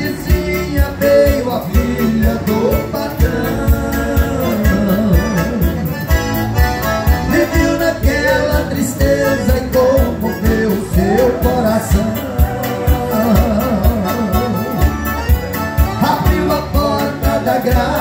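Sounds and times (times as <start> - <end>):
harmonica melody: 0.0 - 18.0.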